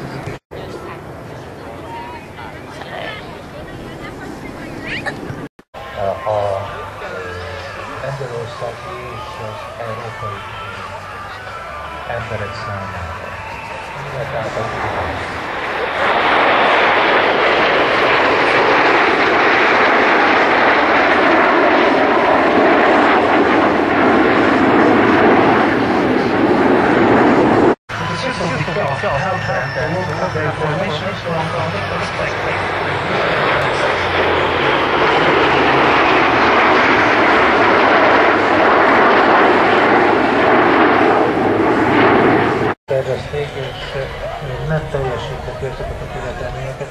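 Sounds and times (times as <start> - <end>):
jet aircraft flying by: 0.0 - 46.9.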